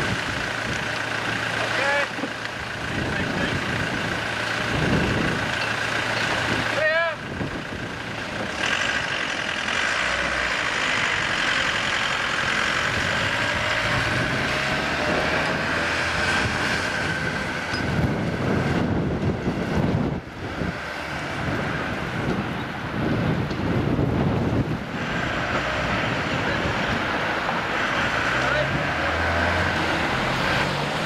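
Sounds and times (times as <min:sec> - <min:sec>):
heavy vehicle engine whining: 0:00.0 - 0:31.0
wind buffeting microphone: 0:02.6 - 0:30.9.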